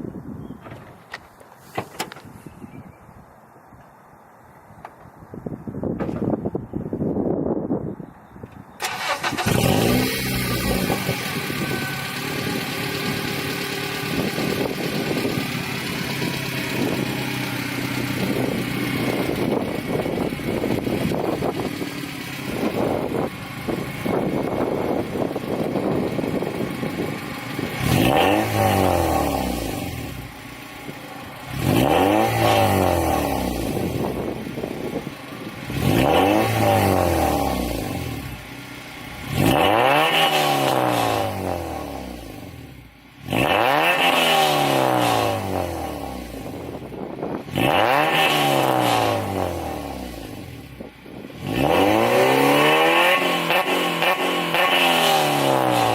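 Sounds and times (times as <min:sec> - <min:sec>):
car engine idling and revving: 0:08.8 - 0:55.9.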